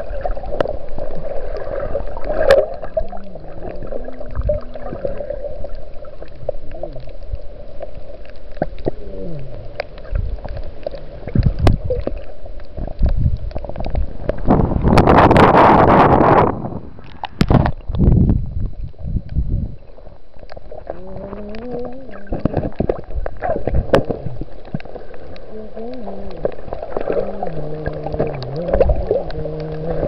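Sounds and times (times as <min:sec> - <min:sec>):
underwater clicks and gurgling: 0:00.0 - 0:30.0
underwater hum: 0:00.0 - 0:30.0.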